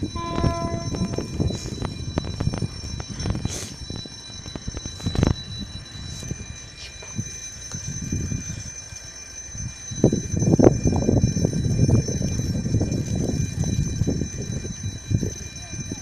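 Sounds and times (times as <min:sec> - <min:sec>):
steady high-pitched ringing: 0:00.0 - 0:16.0.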